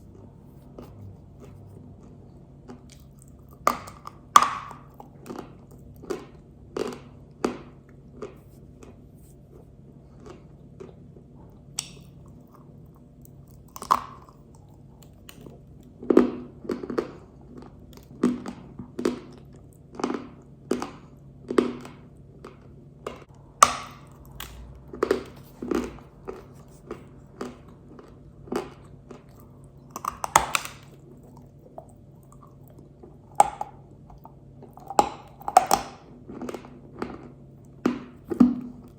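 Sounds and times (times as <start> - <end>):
clay crunched and chewed: 0.0 - 21.1, 21.8 - 38.9.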